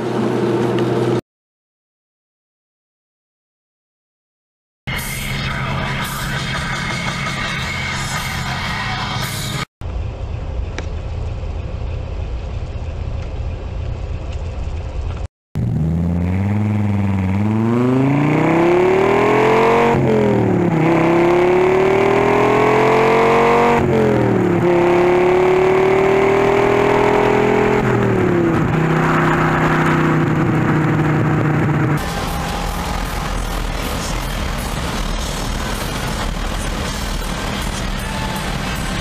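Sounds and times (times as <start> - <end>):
car engine accelerating: 4.9 - 39.0.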